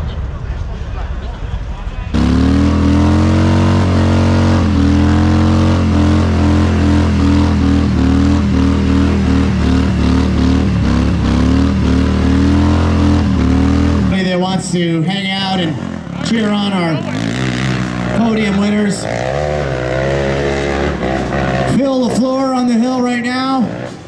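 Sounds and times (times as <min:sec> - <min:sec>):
motorcycle engine revving high: 0:02.1 - 0:24.0.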